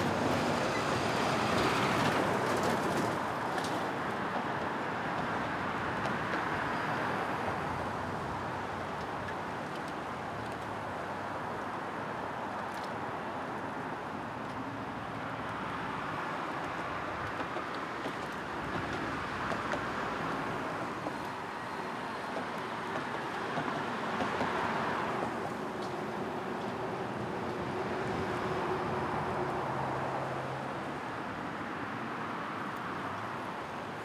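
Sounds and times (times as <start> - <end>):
bicycle tyres whirring on road: 0.0 - 34.0.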